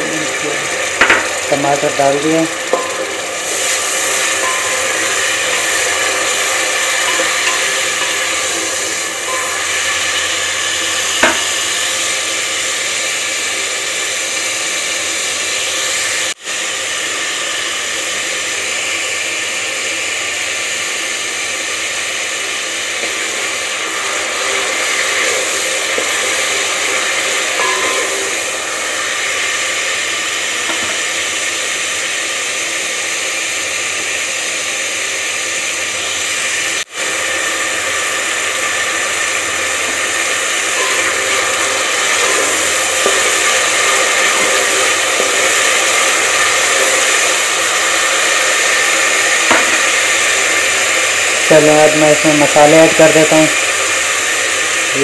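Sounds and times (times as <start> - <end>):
tomato and onion frying in oil: 0.0 - 55.0.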